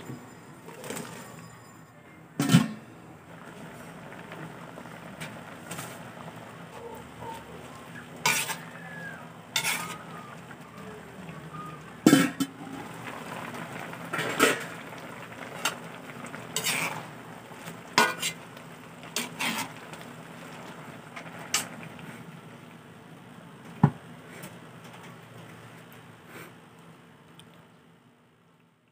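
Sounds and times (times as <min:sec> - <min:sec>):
broth simmering and bubbling: 0:02.6 - 0:28.9.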